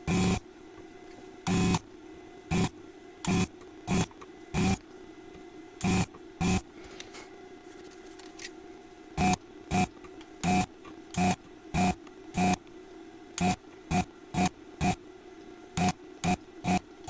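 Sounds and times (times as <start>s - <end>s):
floppy drive buzzing: 0.0s - 6.9s, 8.8s - 17.0s
faint steady whine: 0.0s - 17.0s.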